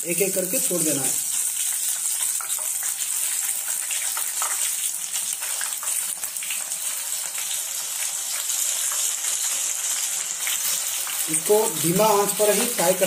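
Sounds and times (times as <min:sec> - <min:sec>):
oil sizzling while deep-frying: 0:00.0 - 0:13.0.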